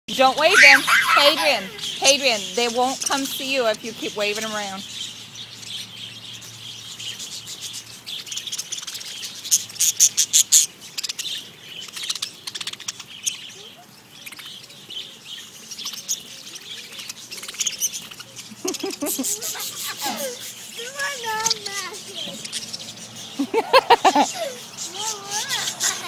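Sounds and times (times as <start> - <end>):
budgerigars chirping and chattering: 0.1 - 26.0.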